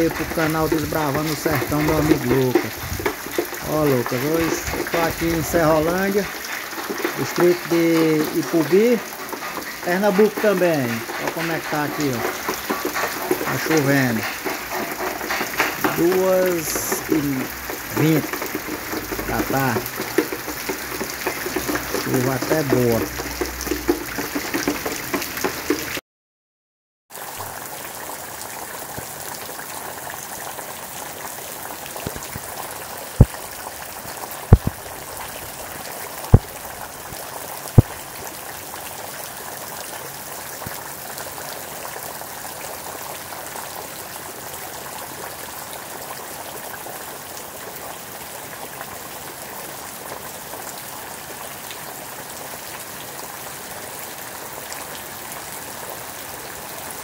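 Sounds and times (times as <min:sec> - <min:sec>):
rain on wet ground: 0:00.0 - 0:26.0, 0:27.1 - 0:57.0.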